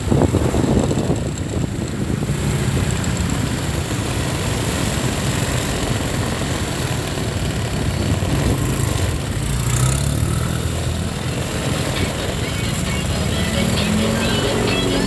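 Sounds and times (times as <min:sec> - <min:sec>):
street traffic engine rumble: 0:00.0 - 0:15.0.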